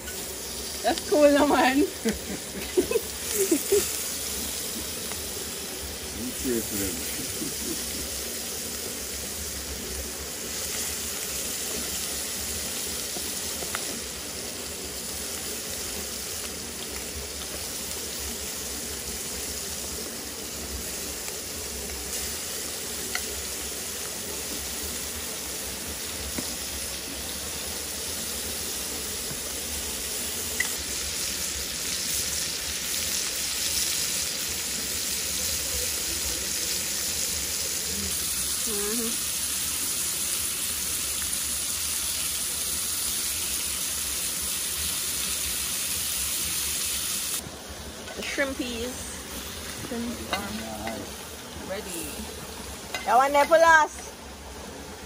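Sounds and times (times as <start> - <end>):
shrimp sizzling in a pan: 0.0 - 55.0.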